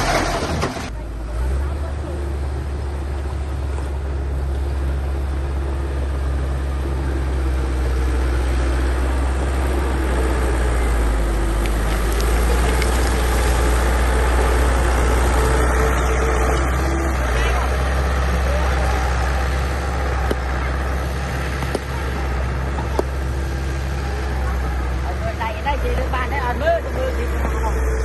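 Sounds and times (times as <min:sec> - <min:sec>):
diesel engine deep rumble: 0:00.0 - 0:28.0.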